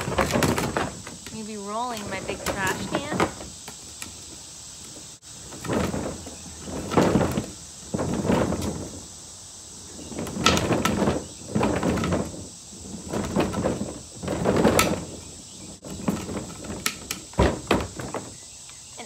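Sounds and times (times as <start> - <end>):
trash cart wheels rumbling and rattling: 0.0 - 9.2, 9.8 - 18.6.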